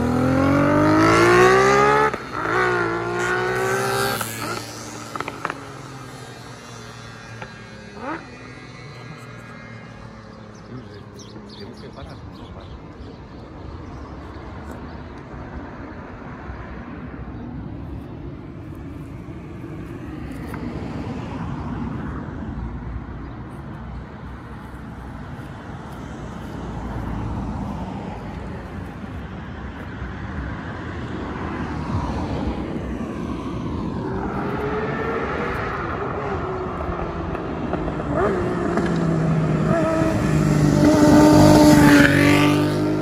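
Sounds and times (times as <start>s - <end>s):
approaching vehicle engine: 0.0s - 43.0s
road traffic rumble: 0.0s - 43.0s.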